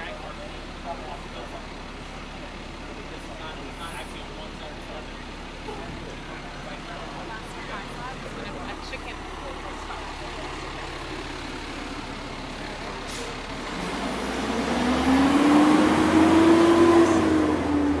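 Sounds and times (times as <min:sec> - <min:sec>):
diesel truck engine revving: 0:00.0 - 0:18.0
street traffic: 0:00.0 - 0:18.0.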